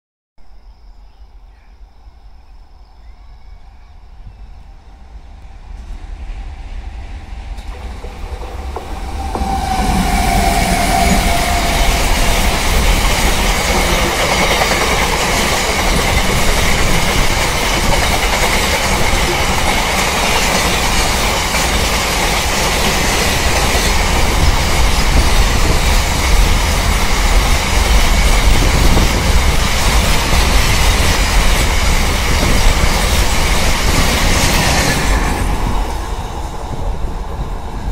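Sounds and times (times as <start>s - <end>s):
locomotive passing tone: 0.9s - 37.9s
train wheels rolling on rails: 1.4s - 37.9s.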